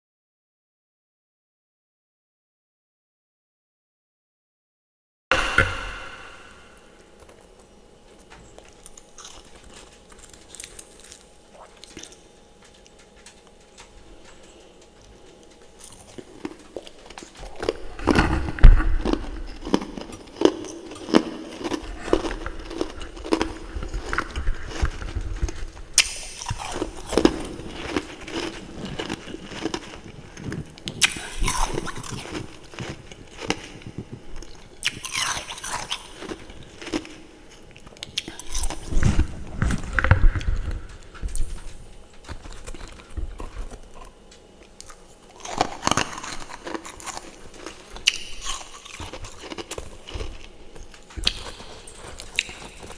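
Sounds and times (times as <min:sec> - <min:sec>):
crunching and chewing frost: 0:05.8 - 0:52.9.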